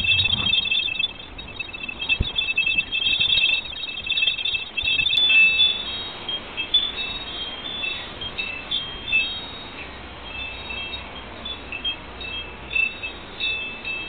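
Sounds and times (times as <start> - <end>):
metal wind chime ringing: 0.0 - 14.0.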